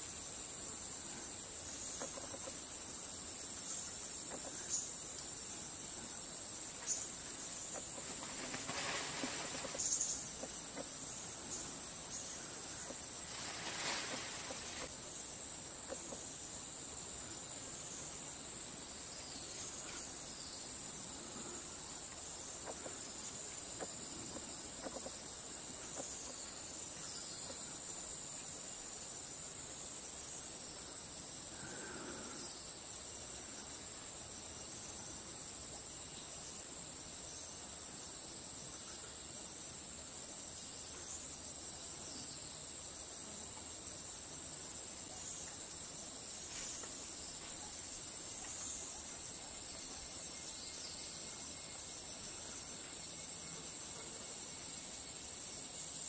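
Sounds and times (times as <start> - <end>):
forest insects chorus: 0.0 - 56.0.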